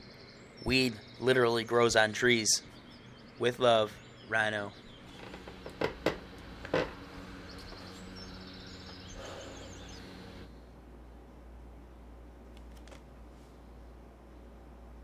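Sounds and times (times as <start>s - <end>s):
birds chirping: 0.0s - 12.2s
low room hum: 0.0s - 15.0s.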